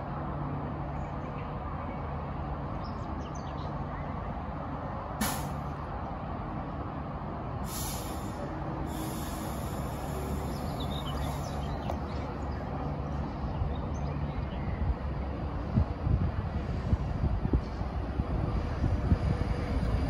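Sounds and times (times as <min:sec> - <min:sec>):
electric train hum and rumble: 0:00.0 - 0:20.0.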